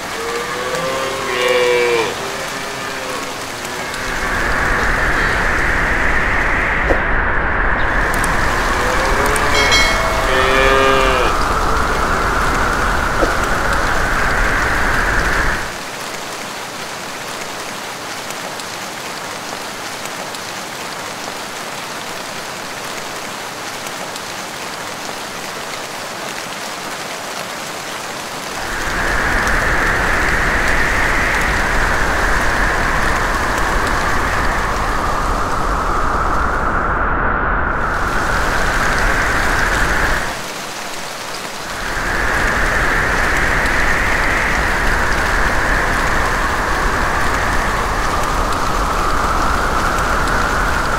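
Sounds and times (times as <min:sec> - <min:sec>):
rain hissing: 0:00.0 - 0:50.9.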